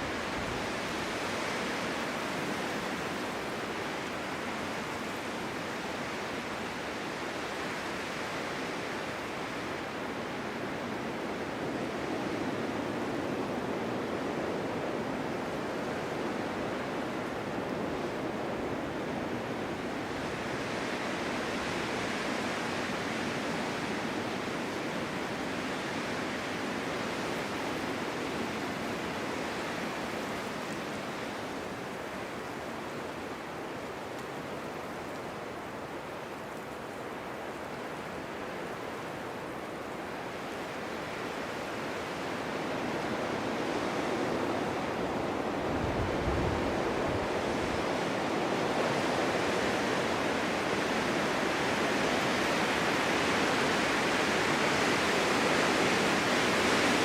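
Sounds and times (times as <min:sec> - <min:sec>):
strong gusty wind: 0:00.0 - 0:57.0.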